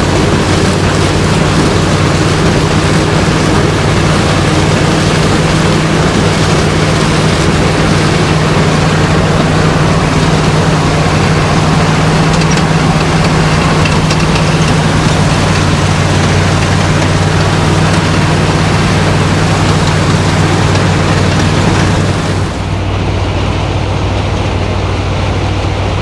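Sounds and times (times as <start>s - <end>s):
heavy machinery engine humming: 0.0s - 26.0s.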